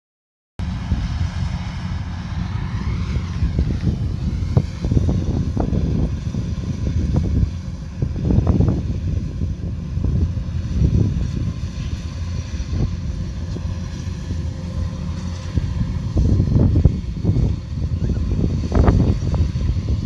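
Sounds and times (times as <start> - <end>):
combine harvester engine drone: 0.6 - 20.0.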